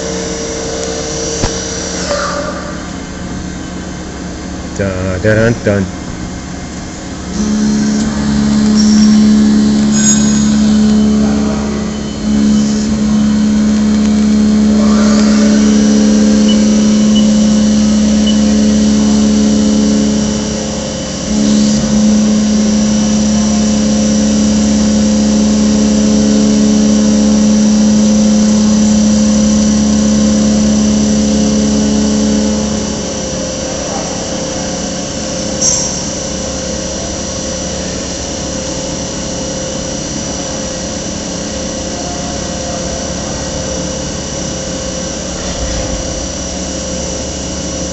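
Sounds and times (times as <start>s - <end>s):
low steady hum: 0.0s - 47.9s
milling machine motor whine: 0.0s - 47.9s.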